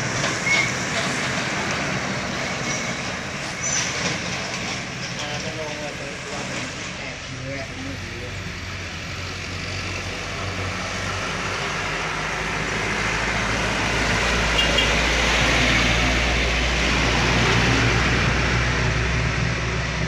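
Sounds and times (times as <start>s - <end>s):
truck diesel engine climbing: 0.0s - 20.0s.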